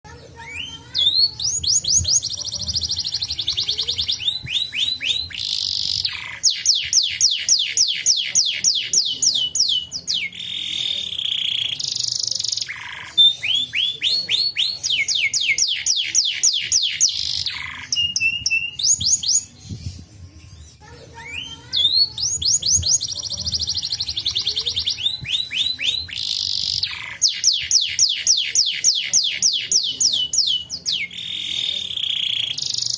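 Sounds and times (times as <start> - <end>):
canary singing: 0.1 - 32.9.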